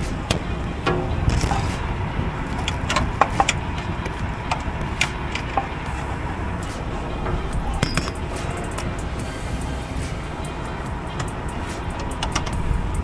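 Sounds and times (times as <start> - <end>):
light clicks and knocks: 0.0 - 13.0
wind buffeting microphone: 0.0 - 13.0.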